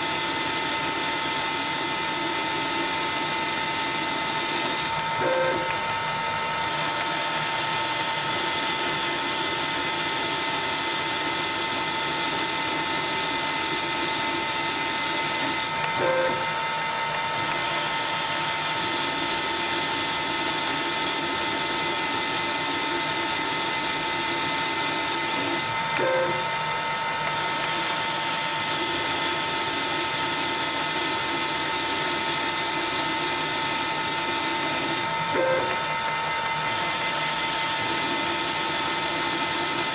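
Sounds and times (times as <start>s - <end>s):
lathe machine whine: 0.0s - 39.9s.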